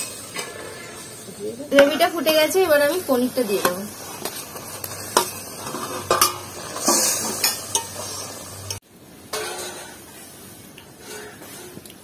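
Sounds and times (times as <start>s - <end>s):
spoon scraping metal pan: 0.0s - 10.1s, 11.0s - 11.8s
gravy bubbling and sizzling: 0.0s - 12.0s.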